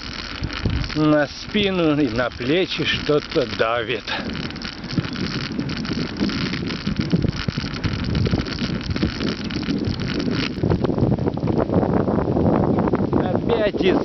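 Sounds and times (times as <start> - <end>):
bicycle tyre and road noise: 0.0 - 14.0
wind buffeting microphone: 0.0 - 14.0.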